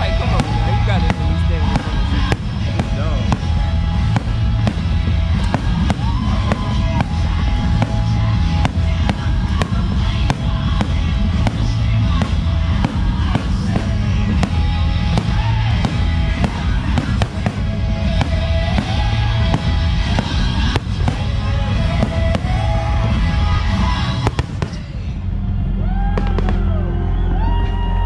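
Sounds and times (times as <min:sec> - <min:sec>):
fireworks bursting: 0:00.0 - 0:25.1, 0:26.2 - 0:26.8
music playing: 0:00.0 - 0:28.0.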